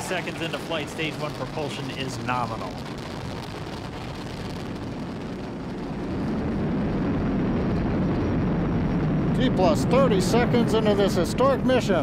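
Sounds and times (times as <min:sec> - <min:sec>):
rocket engines rumbling: 0:00.0 - 0:12.0.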